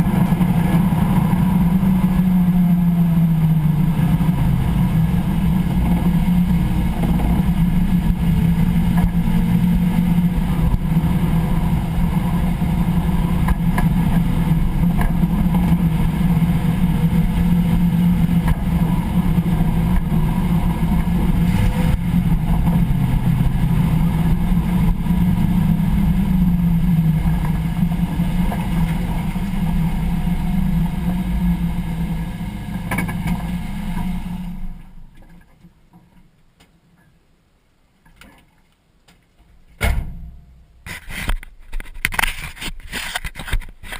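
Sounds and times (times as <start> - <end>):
car driveline hum: 0.0 - 35.4.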